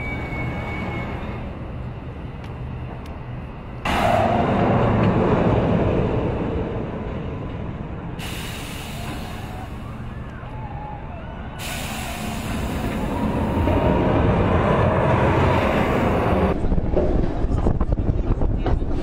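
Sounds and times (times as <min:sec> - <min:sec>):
roller coaster rumbling on track: 0:00.0 - 0:19.0.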